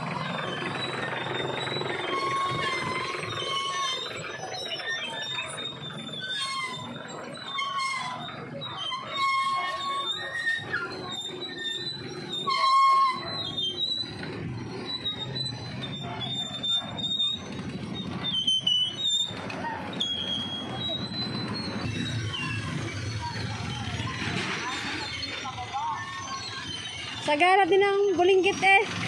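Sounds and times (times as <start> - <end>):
short high-pitched squeals: 0.0 - 29.0.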